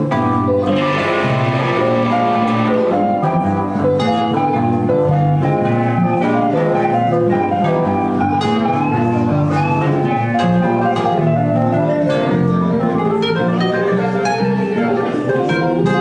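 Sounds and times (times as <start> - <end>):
electric guitar: 0.0 - 16.0
electronic keyboard: 0.0 - 16.0.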